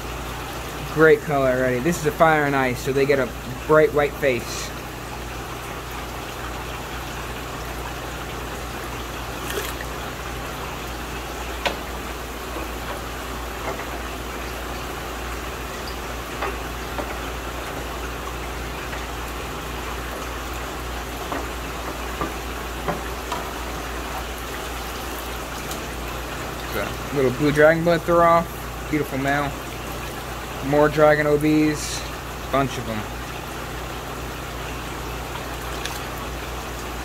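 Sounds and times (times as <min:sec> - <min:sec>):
aquarium water bubbling: 0:00.0 - 0:37.0.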